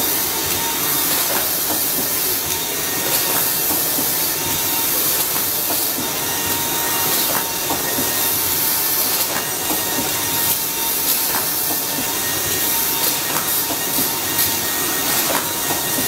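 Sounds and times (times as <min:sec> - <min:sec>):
printing machine hissing: 0:00.0 - 0:16.0.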